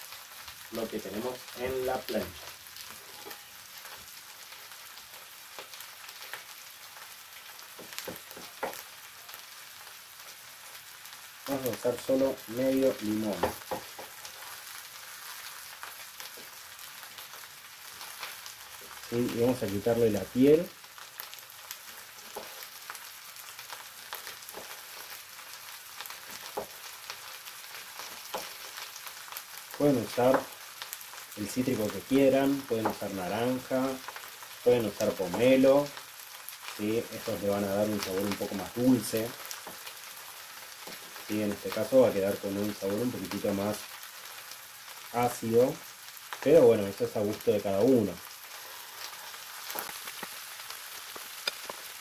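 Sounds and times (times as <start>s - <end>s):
vegetables sizzling on a griddle: 0.0s - 52.0s.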